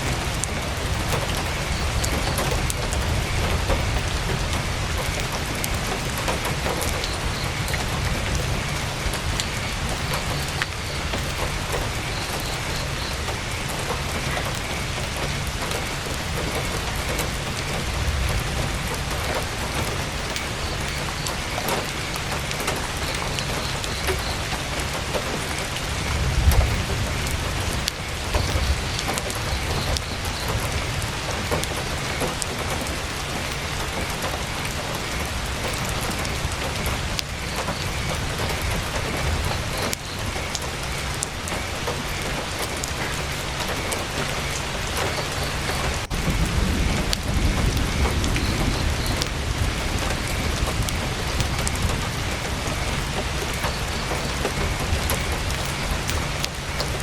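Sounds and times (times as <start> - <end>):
campfire crackling: 0.0 - 57.0
heavy rain on a tent: 0.0 - 57.0.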